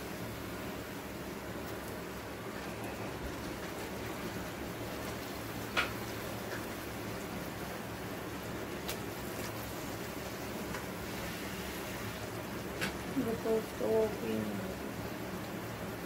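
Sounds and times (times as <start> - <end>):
bread sizzling in hot oil: 0.0 - 16.0.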